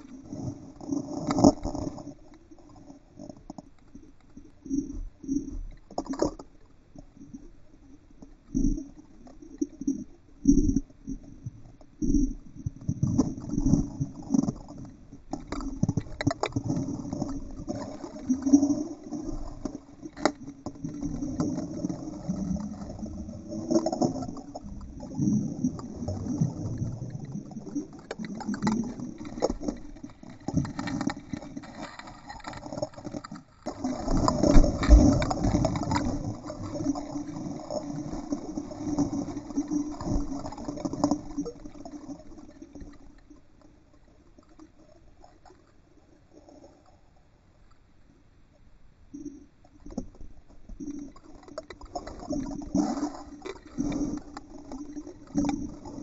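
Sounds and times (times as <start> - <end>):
underwater bubbling: 0.0 - 56.0.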